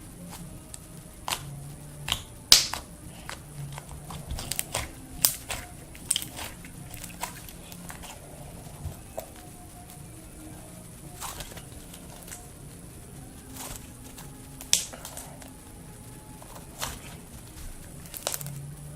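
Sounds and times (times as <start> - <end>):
slime squishing with pops: 0.2 - 18.9.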